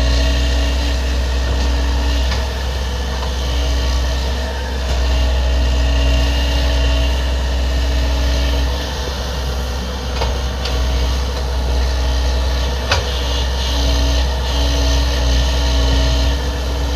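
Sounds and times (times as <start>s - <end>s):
excavator engine humming: 0.0s - 16.9s.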